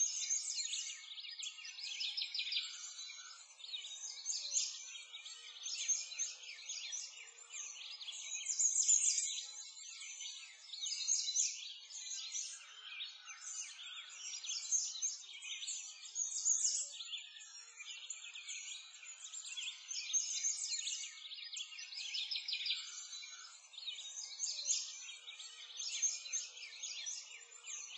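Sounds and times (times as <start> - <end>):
birds chirping and singing: 0.0 - 27.9.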